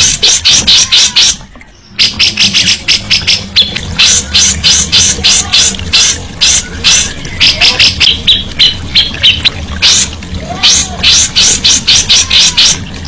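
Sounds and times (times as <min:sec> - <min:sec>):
bird singing harsh rasping notes: 0:00.0 - 0:12.8.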